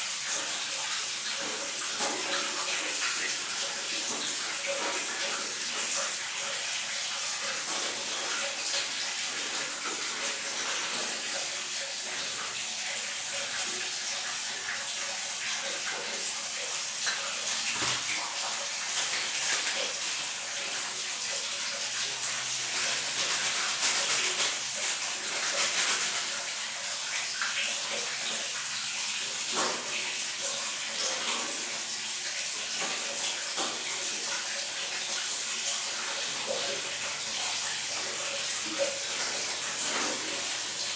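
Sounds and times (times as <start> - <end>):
water running: 0.0 - 40.9.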